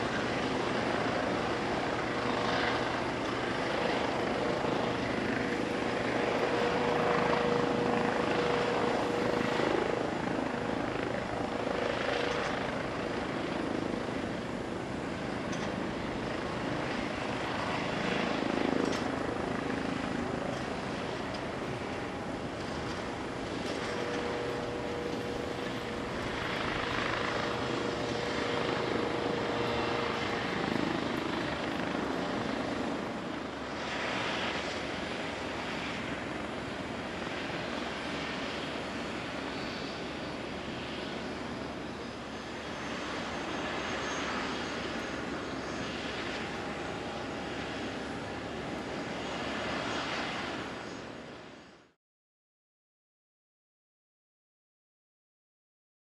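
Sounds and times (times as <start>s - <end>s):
helicopter rotor and engines: 0.0s - 52.0s.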